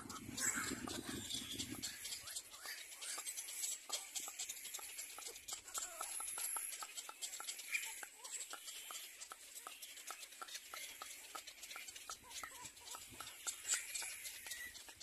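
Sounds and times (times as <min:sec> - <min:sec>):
chicks calling with rapid clicks: 0:00.0 - 0:15.0.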